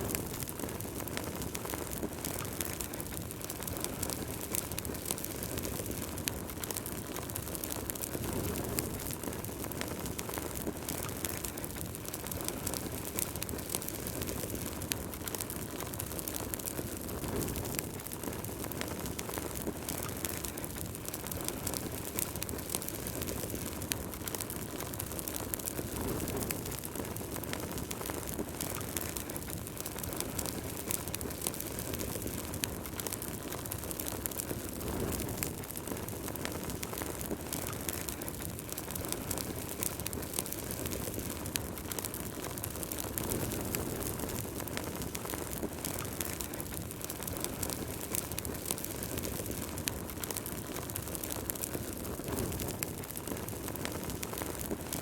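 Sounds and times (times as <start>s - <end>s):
fire crackling and popping: 0.0s - 55.0s
wood fire burning: 0.0s - 55.0s.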